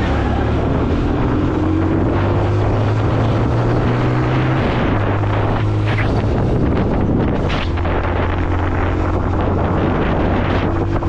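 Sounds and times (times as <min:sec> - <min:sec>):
motorcycle engine accelerating: 0:00.0 - 0:11.0
wind rushing over microphone: 0:00.0 - 0:11.0.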